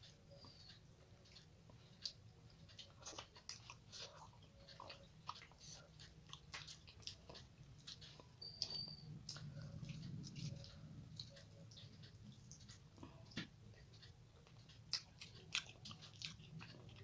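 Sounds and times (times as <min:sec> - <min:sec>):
close-up chewing: 0:00.0 - 0:17.0.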